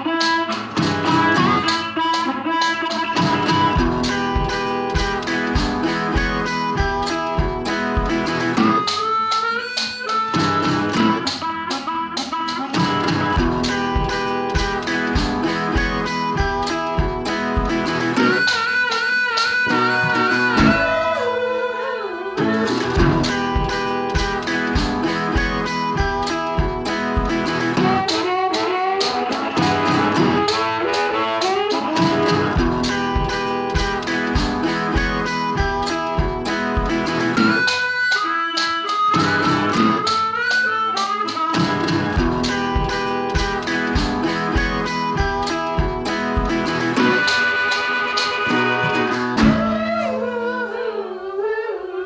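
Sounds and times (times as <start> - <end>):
plucked acoustic guitar: 0.0 - 51.0.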